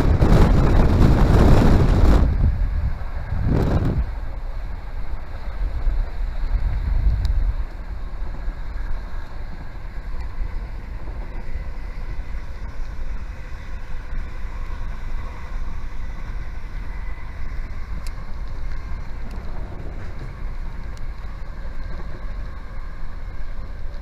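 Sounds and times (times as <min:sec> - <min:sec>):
train wheels rumbling on track: 0:00.0 - 0:24.0
wind buffeting microphone: 0:00.0 - 0:24.0.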